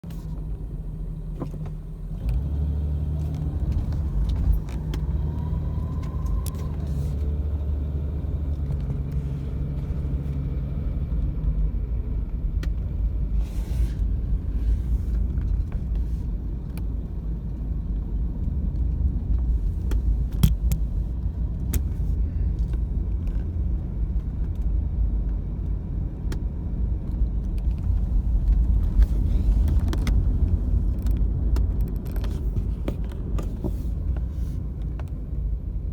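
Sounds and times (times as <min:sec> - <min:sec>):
car engine rumbling: 0:00.0 - 0:35.9.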